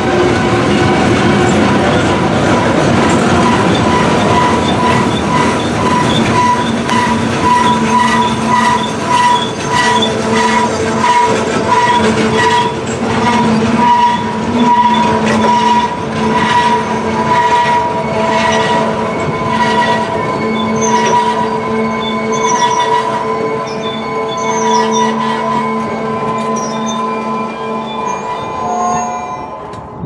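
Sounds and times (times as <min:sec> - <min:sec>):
rumble of train wheels: 0:00.0 - 0:30.0
train wheel squeal: 0:03.0 - 0:30.0.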